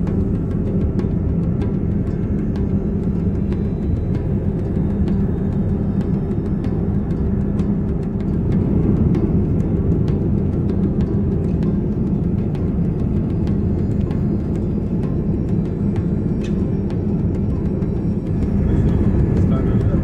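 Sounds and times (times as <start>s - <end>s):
jet airliner rumble: 0.0s - 20.0s.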